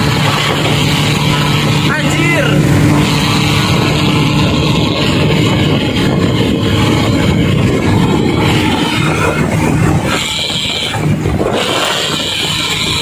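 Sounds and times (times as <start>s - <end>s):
engine drone inside vehicle: 0.0s - 13.0s
road and wind noise: 0.0s - 13.0s.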